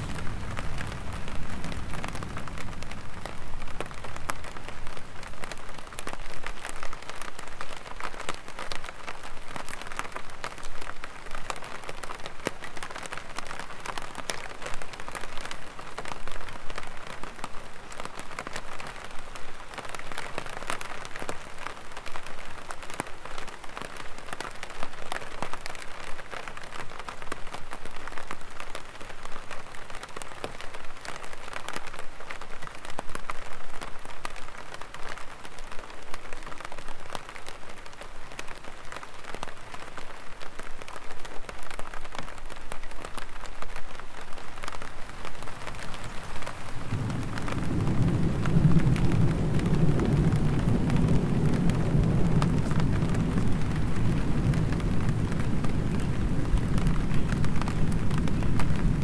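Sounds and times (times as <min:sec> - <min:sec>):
rain falling on an umbrella: 0:00.0 - 0:59.0.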